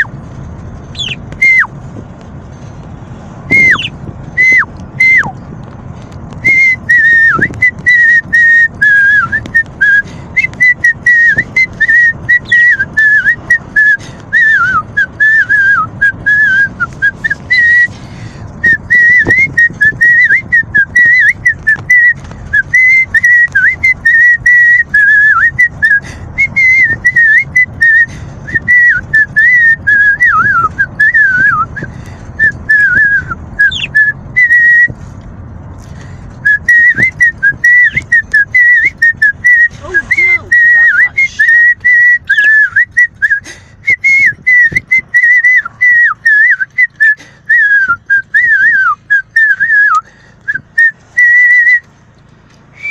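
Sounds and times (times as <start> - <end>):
person whistling a tune: 1.0 - 1.7, 3.5 - 5.4, 6.4 - 18.0, 18.6 - 35.0, 36.4 - 51.9.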